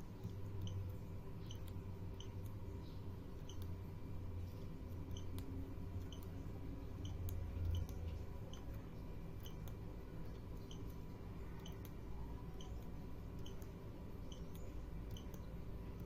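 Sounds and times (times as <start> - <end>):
low electrical hum: 0.0 - 16.0
faint high-pitched ticks: 0.2 - 2.6, 4.9 - 16.0.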